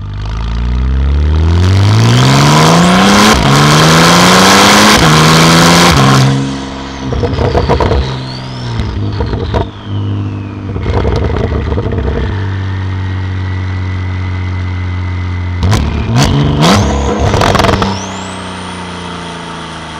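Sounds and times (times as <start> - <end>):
car engine revving: 0.7 - 19.9.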